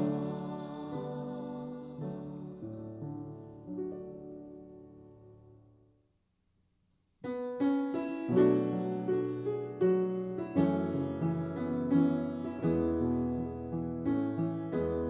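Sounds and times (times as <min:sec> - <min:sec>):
piano playing hymn chords: 0:00.0 - 0:05.4, 0:07.3 - 0:15.0.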